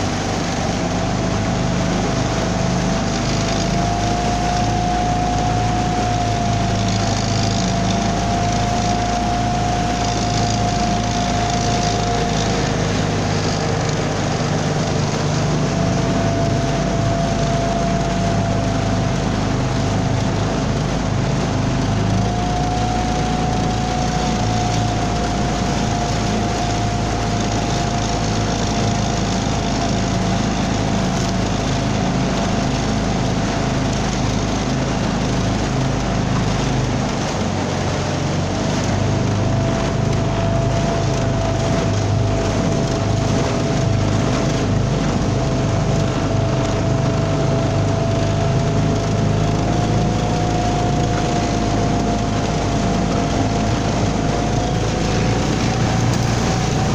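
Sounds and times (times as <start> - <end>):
motor whine: 0.0 - 56.9
outboard motor running: 0.0 - 56.9.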